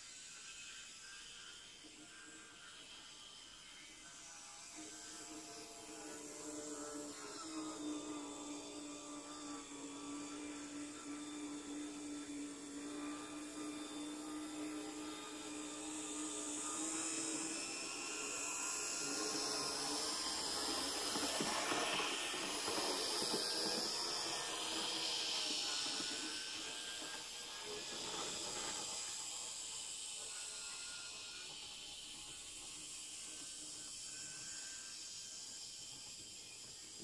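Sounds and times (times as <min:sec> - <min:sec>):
model train motor whine: 0:00.0 - 0:37.0.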